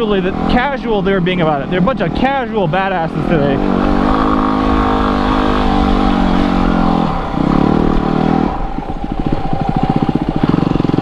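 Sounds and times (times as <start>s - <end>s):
motorcycle engine revving and chugging: 0.0s - 11.0s.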